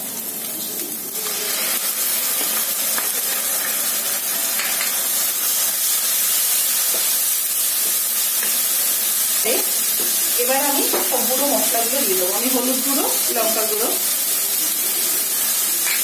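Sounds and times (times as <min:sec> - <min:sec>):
masala sizzling in oil: 0:00.0 - 0:16.0.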